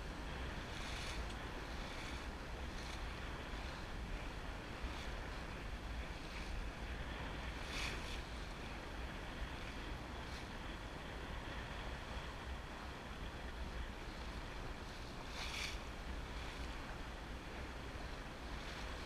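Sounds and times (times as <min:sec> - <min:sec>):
water splashing along boat hull: 0:00.0 - 0:19.0
wind buffeting microphone: 0:00.0 - 0:19.0.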